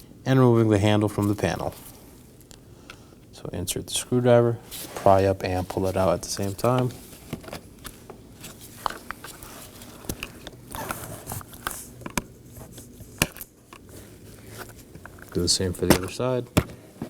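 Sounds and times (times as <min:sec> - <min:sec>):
handling rustle: 0:00.5 - 0:02.5, 0:04.6 - 0:17.0.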